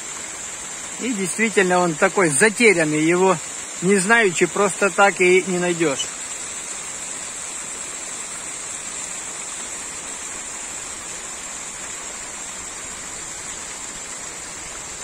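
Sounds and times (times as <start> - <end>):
waterfall over rocks: 0.0 - 15.0.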